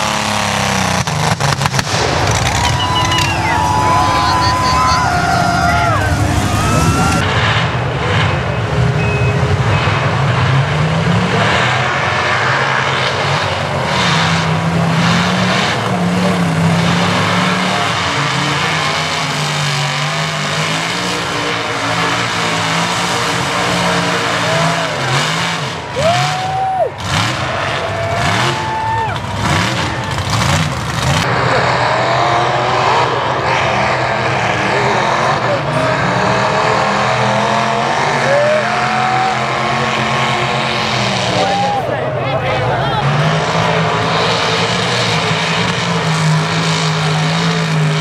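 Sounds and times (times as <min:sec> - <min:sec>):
truck engines revving hard: 0:00.0 - 0:48.0
trucks churning through mud: 0:00.0 - 0:48.0.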